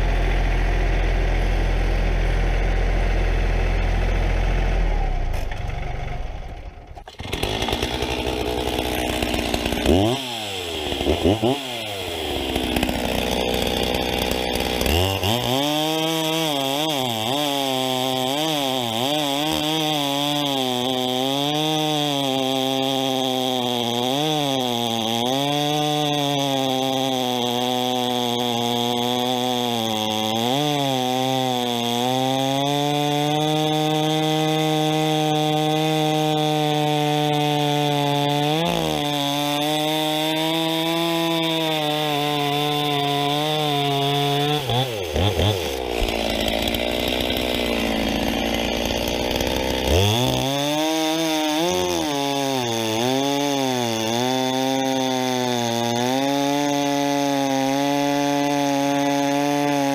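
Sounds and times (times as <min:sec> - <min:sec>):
chainsaw cutting through log: 0:00.0 - 0:59.9.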